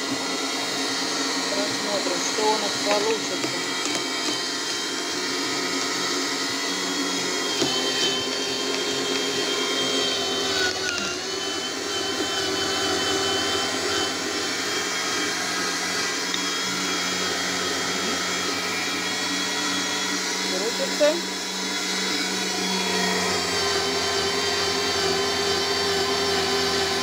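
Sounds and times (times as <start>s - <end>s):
electric meat grinder running: 0.0s - 27.0s.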